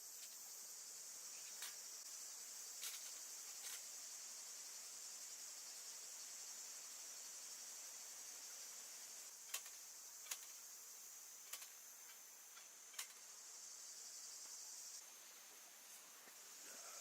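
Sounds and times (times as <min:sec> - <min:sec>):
faint insect chorus: 0:00.0 - 0:17.0.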